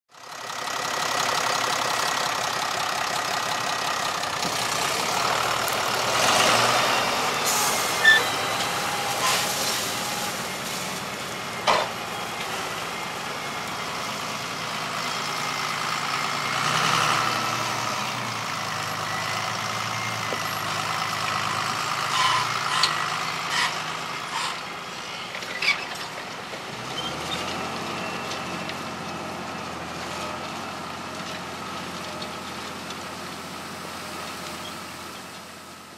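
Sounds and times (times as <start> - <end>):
tractor diesel engine under load: 0.1 - 35.9.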